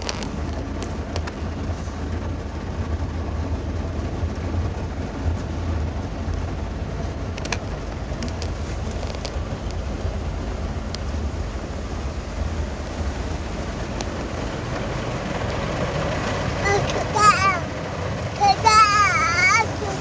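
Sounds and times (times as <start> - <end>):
car wash machinery rumble: 0.0 - 20.0.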